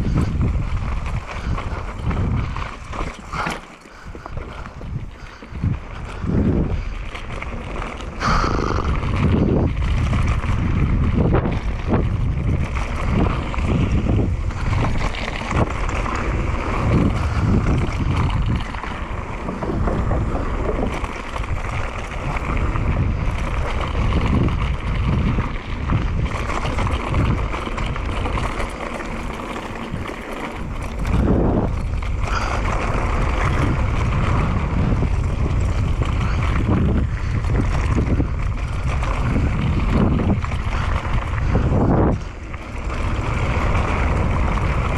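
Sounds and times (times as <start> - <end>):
bike knocking and rattling: 0.0 - 44.9
bike tyres rumbling on dirt trail: 0.0 - 44.9
wind buffeting microphone: 0.0 - 44.9.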